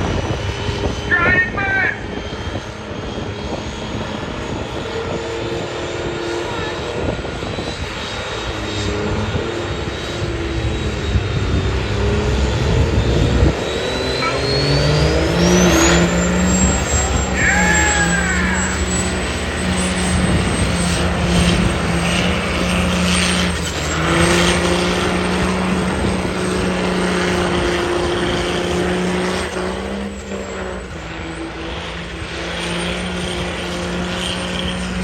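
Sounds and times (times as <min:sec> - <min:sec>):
diesel truck engine running hard: 0:00.0 - 0:35.0
turbo whine: 0:00.0 - 0:35.0.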